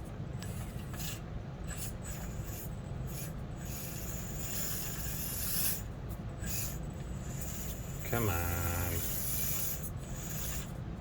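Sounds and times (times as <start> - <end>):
small electric motor and gears: 0.0 - 10.9.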